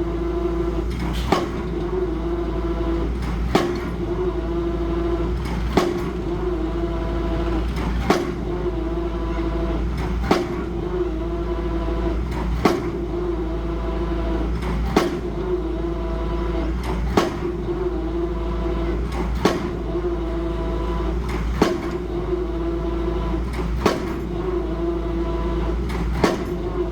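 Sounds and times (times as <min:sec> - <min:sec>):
steady mechanical hum: 0:00.0 - 0:26.9.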